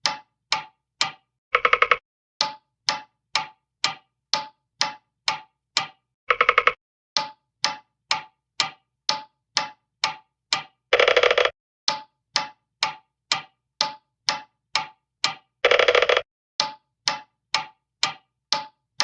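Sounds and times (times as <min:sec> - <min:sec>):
cartoon clock ticking: 0:00.0 - 0:19.0.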